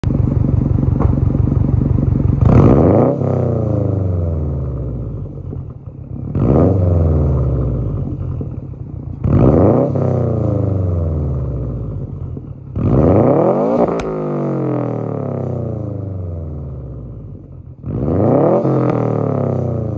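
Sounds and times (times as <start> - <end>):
car engine idling and revving: 0.0 - 19.9.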